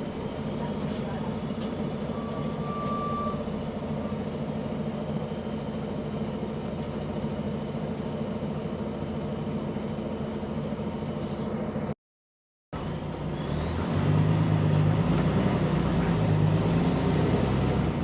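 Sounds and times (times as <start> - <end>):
bus engine with exhaust leak: 0.0 - 12.0, 12.8 - 18.0.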